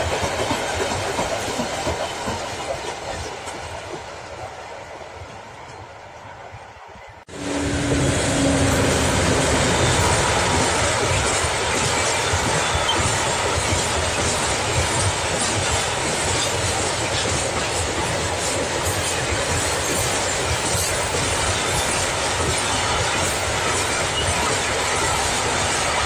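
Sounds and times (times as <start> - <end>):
freight train wheels rumbling: 0.0 - 26.0
rail clicks: 0.0 - 26.0.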